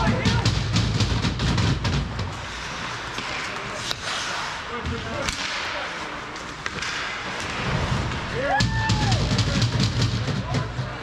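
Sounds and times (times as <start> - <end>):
hockey sticks and puck clacking: 0.0 - 11.0
skates scraping ice: 0.0 - 11.0.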